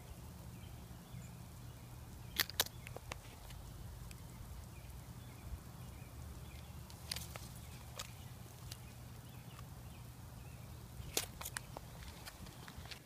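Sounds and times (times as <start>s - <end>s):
steady low rumble: 0.0s - 12.9s.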